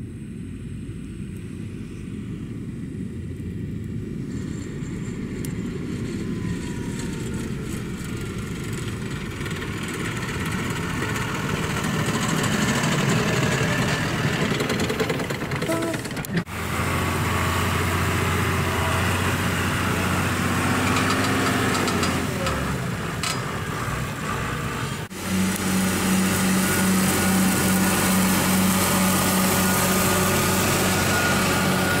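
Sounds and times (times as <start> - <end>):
tractor diesel engine running: 3.5 - 32.0
tractor engine pulsing throb: 4.1 - 32.0.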